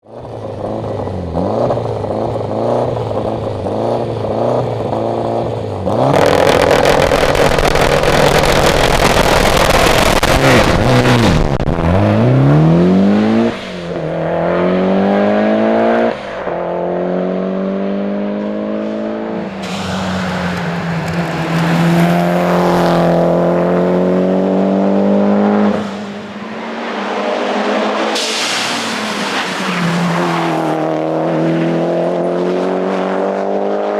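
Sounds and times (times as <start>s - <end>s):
car engine revving through upshifts: 0.5s - 33.9s.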